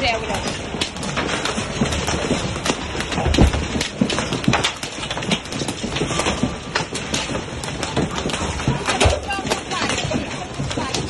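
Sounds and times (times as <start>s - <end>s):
hail clattering on wooden deck: 0.0s - 11.0s
hiss of falling hail: 0.0s - 11.0s.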